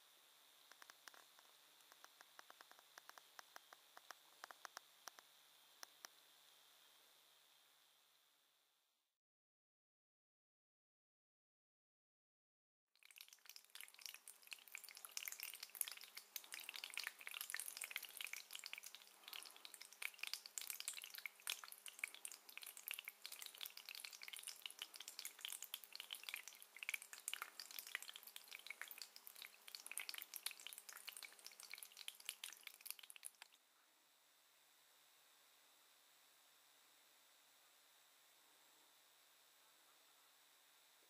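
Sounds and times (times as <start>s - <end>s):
faint steady hum: 0.0s - 9.1s, 13.0s - 41.0s.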